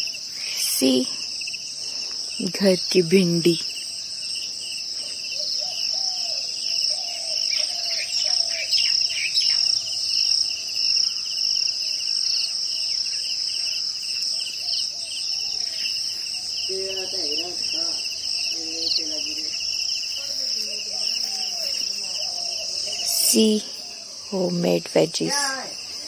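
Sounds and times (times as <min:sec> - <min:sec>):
high insect trill: 0:00.0 - 0:26.0
low pulsing insect trill: 0:00.0 - 0:26.0.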